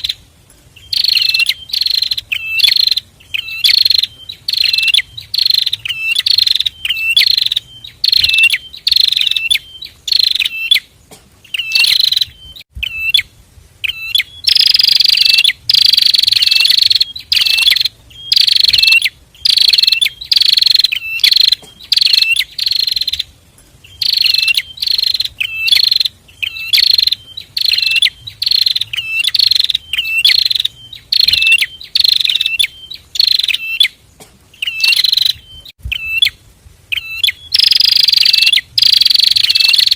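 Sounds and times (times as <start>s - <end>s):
bird chirping sharply: 0.8s - 39.9s.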